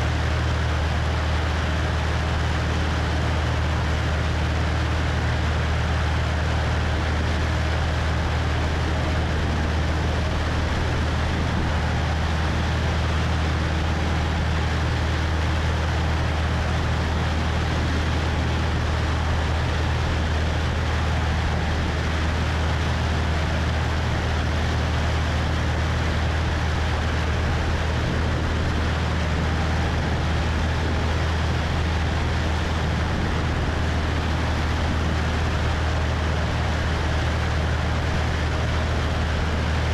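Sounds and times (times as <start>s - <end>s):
airplane engine and propeller droning: 0.0s - 39.9s
wind rushing over microphone: 5.9s - 39.9s.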